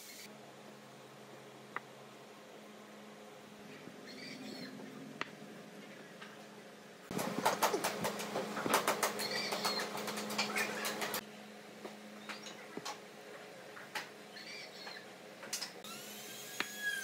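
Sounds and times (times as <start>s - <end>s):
steady low hum: 0.2s - 17.0s.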